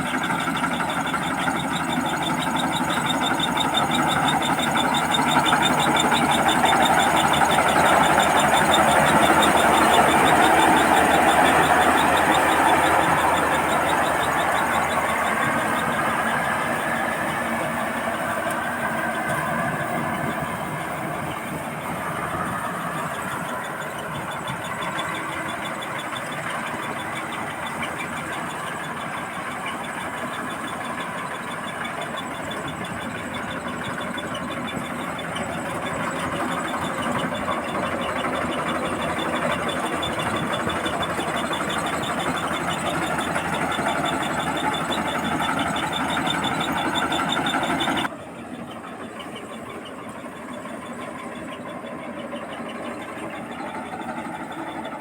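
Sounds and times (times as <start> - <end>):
fast ticking rattle: 0.0 - 48.1, 48.8 - 55.0
combine harvester running: 0.0 - 55.0.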